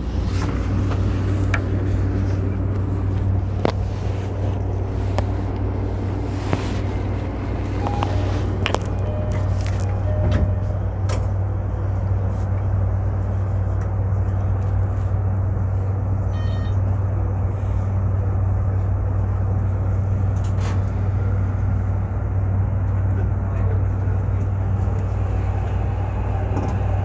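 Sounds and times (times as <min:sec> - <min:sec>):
electric train rumble and hum: 0:00.0 - 0:27.0.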